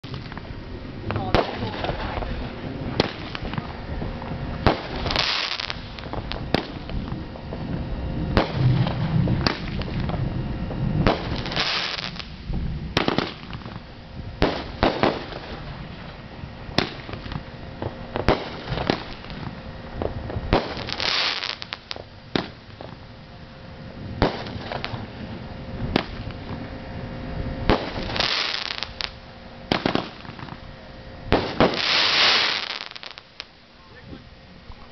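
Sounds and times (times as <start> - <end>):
fireworks bangs: 0.0 - 23.1, 23.8 - 34.2
fireworks hissing and crackling: 0.0 - 34.9.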